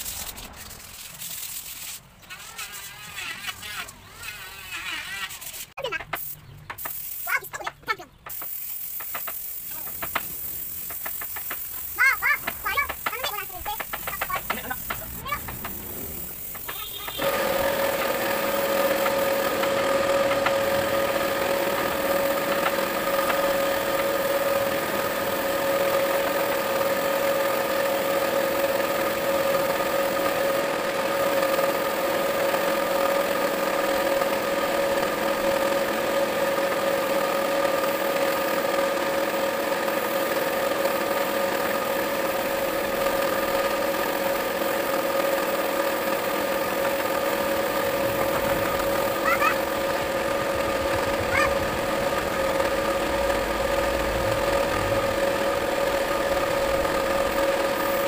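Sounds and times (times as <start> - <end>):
air compressor humming: 0.0 - 58.0
air spray gun hissing: 6.2 - 7.6, 8.2 - 58.0.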